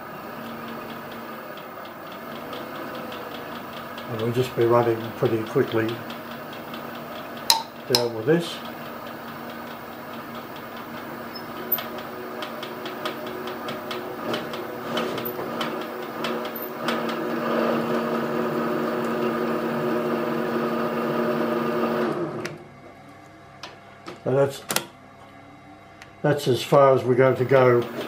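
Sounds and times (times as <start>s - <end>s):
milling machine spindle hum: 0.0s - 24.0s, 25.0s - 28.0s.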